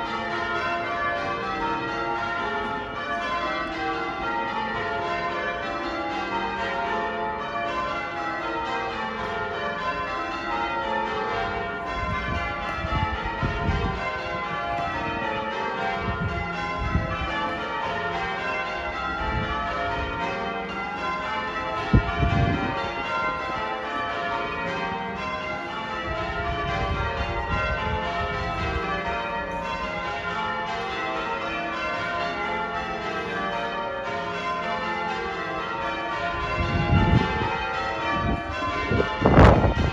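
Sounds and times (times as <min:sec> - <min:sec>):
church bells ringing changes: 0:00.0 - 0:39.9.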